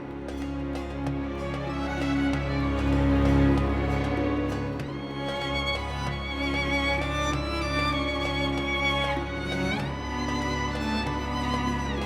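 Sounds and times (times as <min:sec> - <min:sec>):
violin playing slow notes: 0:00.0 - 0:12.0.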